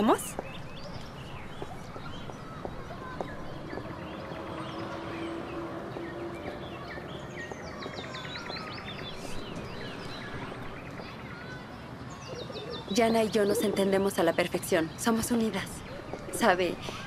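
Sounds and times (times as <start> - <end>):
outdoor background hum: 0.0 - 17.0
small birds chirping: 0.0 - 17.0.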